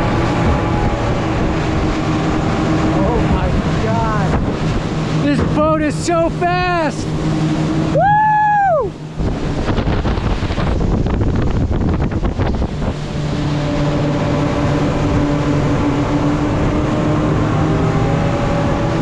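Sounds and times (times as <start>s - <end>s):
water slapping against hull: 0.0s - 8.0s, 9.0s - 17.4s
boat engine drone: 0.0s - 19.0s
wind buffeting microphone: 0.0s - 19.0s.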